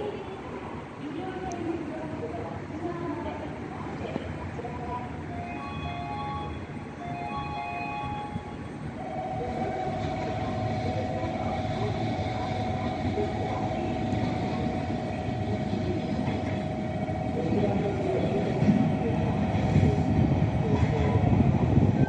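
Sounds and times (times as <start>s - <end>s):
low train rumble: 0.0s - 22.0s.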